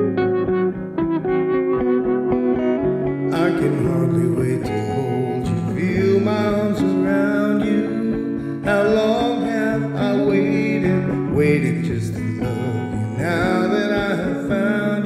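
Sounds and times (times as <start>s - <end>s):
guitar chords: 0.0s - 15.0s.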